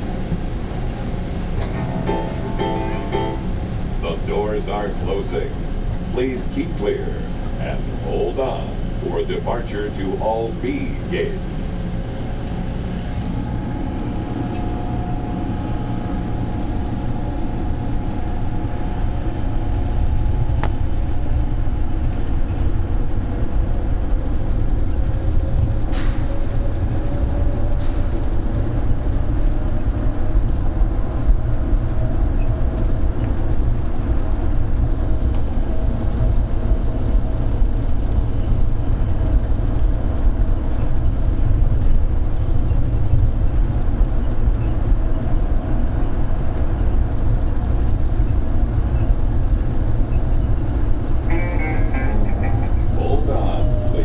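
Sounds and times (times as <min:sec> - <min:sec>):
train rumbling in tunnel: 0:00.0 - 0:54.0.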